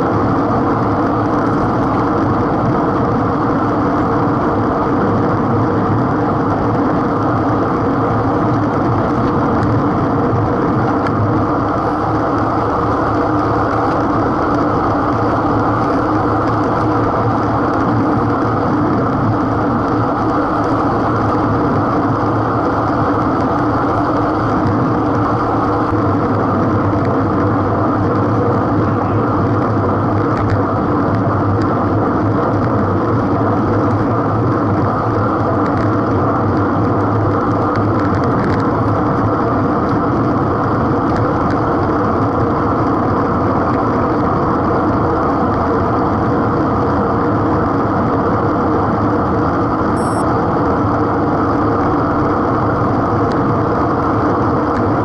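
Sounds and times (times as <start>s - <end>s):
bicycle road noise: 0.0s - 55.0s
wind rumble: 0.0s - 55.0s.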